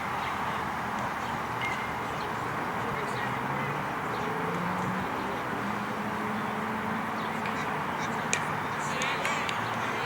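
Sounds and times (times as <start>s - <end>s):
distant voices: 0.0s - 10.0s.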